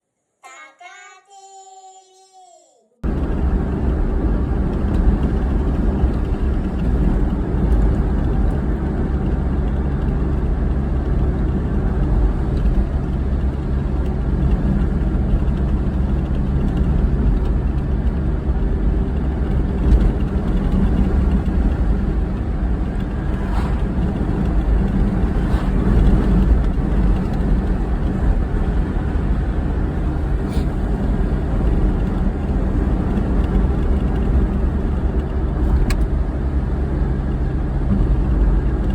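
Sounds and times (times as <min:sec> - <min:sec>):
car engine and road noise: 0:03.0 - 0:38.9.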